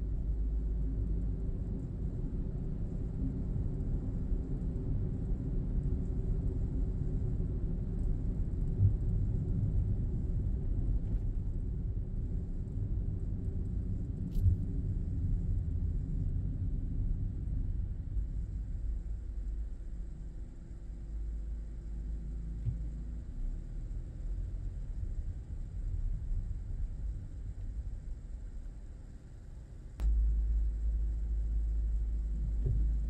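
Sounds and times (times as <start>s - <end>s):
car driving rumble inside cabin: 0.0s - 33.0s.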